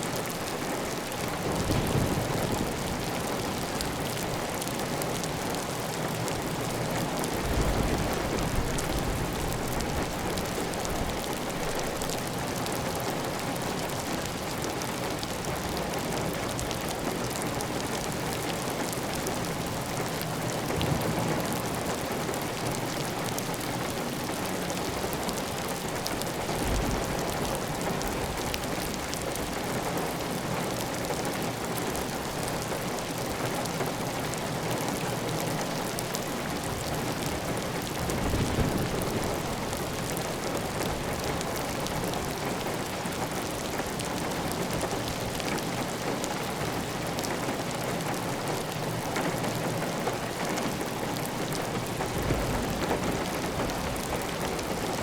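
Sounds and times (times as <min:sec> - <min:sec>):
heavy rain on a tile roof: 0:00.0 - 0:55.0.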